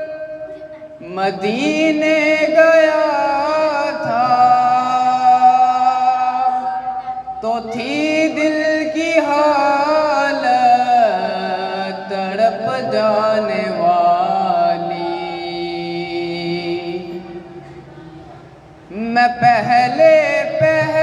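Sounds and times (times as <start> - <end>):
man singing unaccompanied: 0.0 - 17.7, 18.9 - 21.0.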